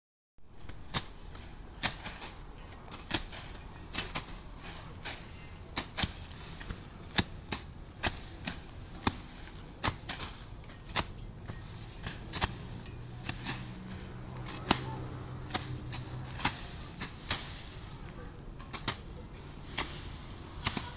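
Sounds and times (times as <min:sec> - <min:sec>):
hand tools chopping into bush: 0:00.6 - 0:17.9, 0:18.6 - 0:20.9.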